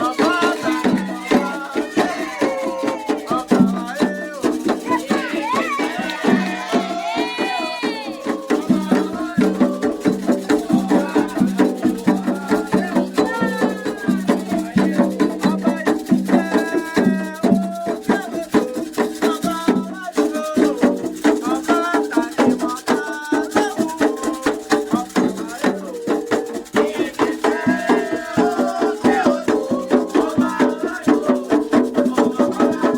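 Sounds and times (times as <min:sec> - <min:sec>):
drums beating: 0:00.0 - 0:32.9
rattle shaking: 0:00.0 - 0:32.9
voices singing a chant: 0:00.0 - 0:32.9.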